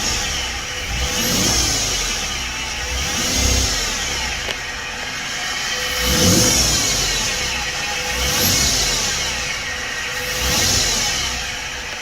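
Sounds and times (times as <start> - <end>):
truck engine revving: 0.0 - 12.0
whine from engine bay: 0.0 - 12.0.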